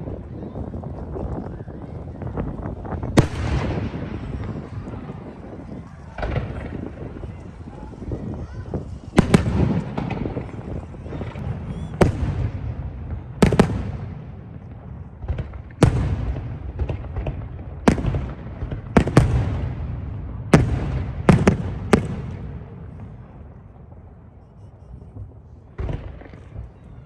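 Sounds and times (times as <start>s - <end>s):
fireworks bangs with echo: 2.0s - 24.3s, 24.9s - 27.0s.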